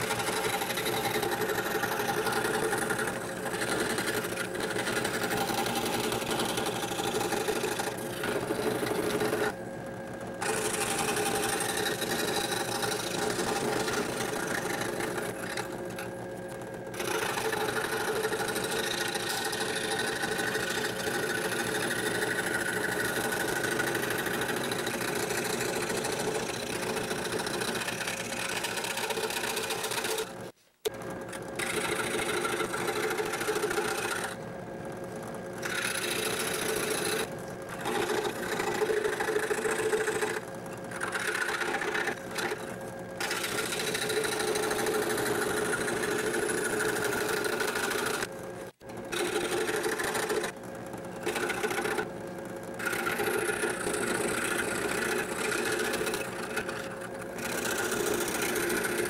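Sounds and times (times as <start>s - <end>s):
scroll saw cutting wood: 0.0s - 59.0s.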